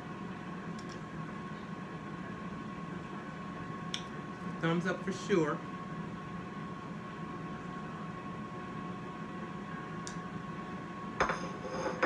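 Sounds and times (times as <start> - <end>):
air fryer fan hum and whine: 0.0 - 12.0.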